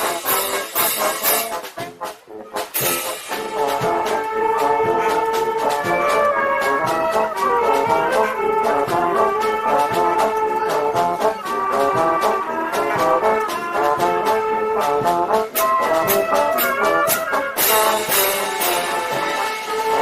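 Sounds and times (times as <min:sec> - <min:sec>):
march drum strokes: 0:00.0 - 0:20.0
trombones and trumpets melody: 0:00.0 - 0:20.0.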